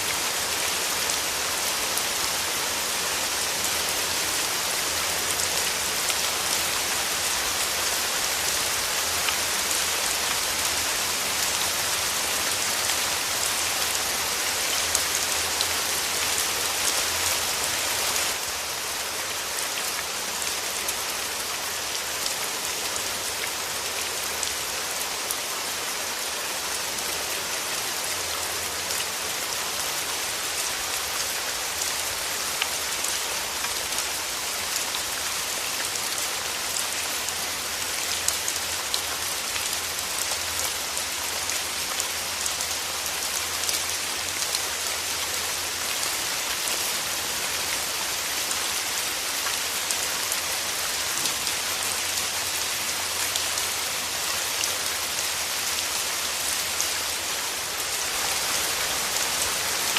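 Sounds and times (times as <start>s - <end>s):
rain drops ticking on surface: 0.0s - 59.9s.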